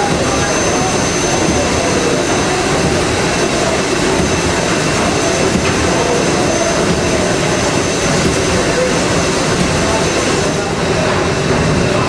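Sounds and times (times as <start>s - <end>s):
steam engine mechanical din: 0.0s - 12.0s
thin high whine: 0.0s - 12.0s.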